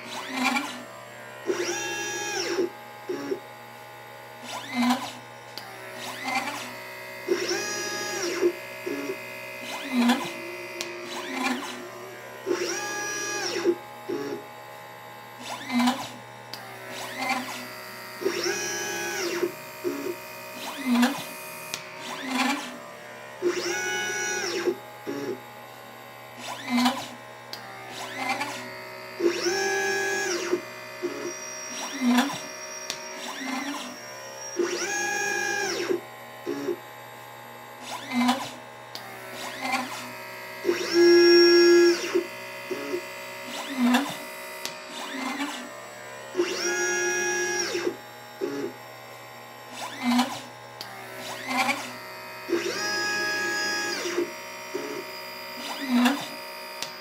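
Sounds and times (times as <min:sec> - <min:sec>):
stepper motors whining: 0:00.0 - 0:57.0.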